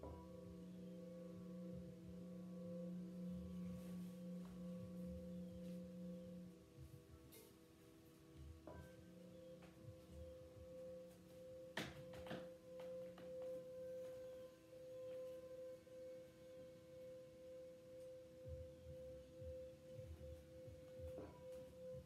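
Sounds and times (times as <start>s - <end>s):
singing bowl ringing: 0.0s - 22.0s.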